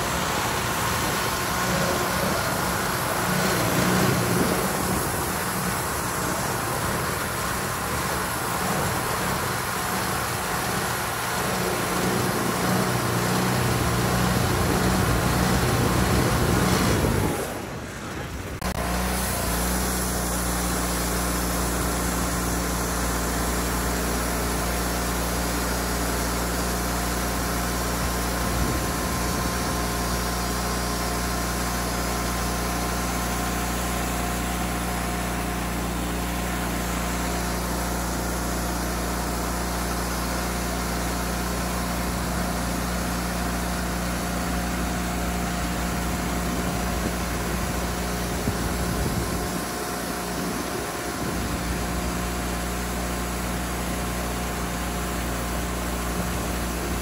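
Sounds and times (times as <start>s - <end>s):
sawmill engine running: 0.0s - 57.0s
steady hum: 0.0s - 57.0s.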